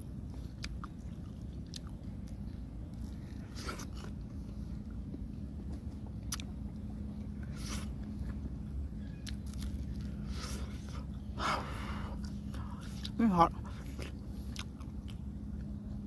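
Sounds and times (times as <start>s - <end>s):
person chewing crisp food: 0.0s - 15.8s
steady low hum: 0.0s - 16.0s.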